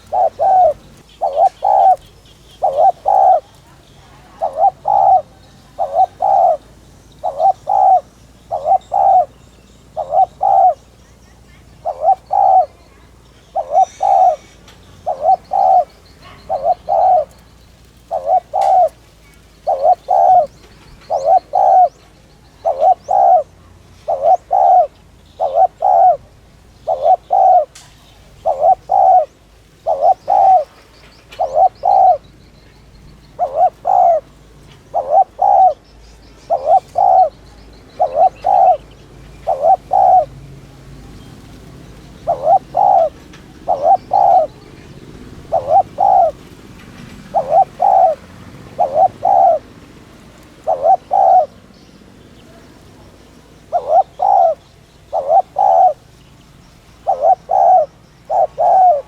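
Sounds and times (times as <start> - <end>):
dove cooing: 0.0 - 59.0
small birds chirping: 0.0 - 59.0.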